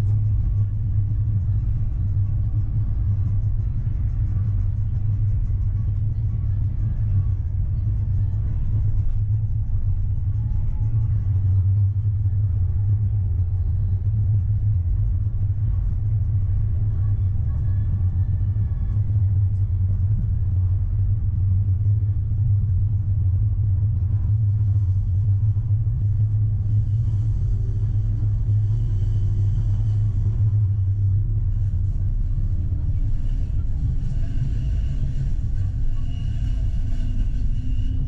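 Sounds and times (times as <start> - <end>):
tram low rumble: 0.0 - 38.0.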